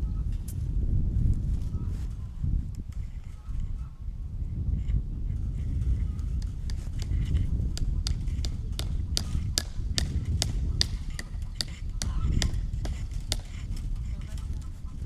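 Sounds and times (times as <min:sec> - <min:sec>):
constant low rumble: 0:00.0 - 0:15.0.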